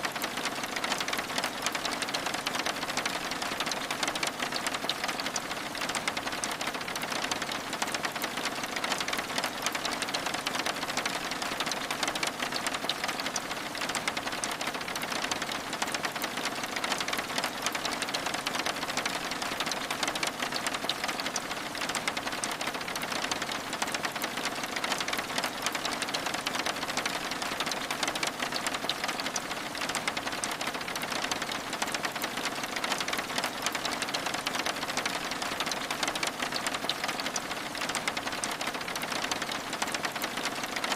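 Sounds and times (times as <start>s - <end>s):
rain on window glass: 0.0s - 40.9s.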